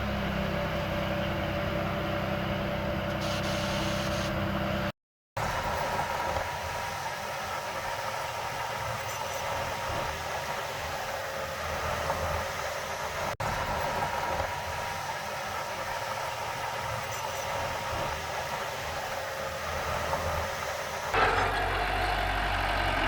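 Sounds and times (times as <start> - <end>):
heavy machinery engine drone: 0.0 - 23.0.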